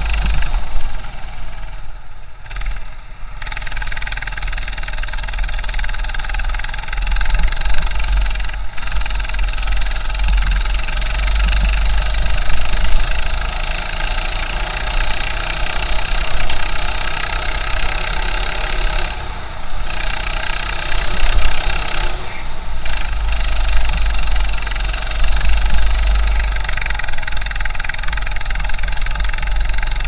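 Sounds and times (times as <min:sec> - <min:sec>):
heavy rumble: 0:00.0 - 0:30.0
muffled go-kart engine revving: 0:00.0 - 0:30.0.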